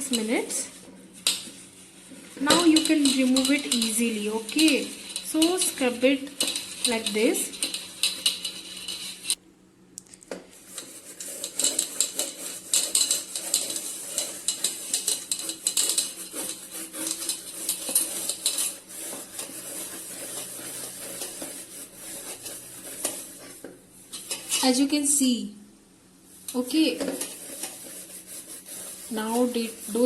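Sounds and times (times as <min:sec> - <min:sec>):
scrubber scraping inside kettle: 0:00.0 - 0:09.4, 0:10.6 - 0:24.9, 0:26.3 - 0:30.0.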